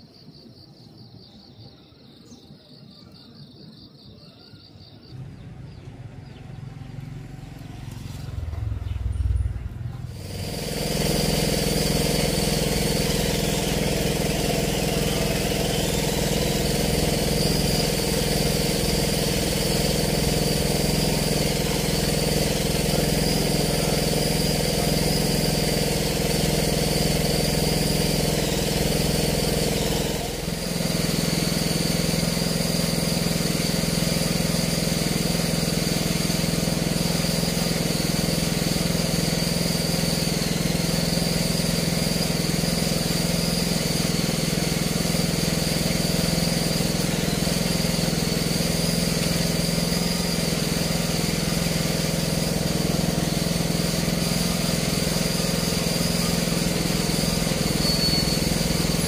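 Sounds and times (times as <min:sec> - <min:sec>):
engine running: 0:05.1 - 0:59.0.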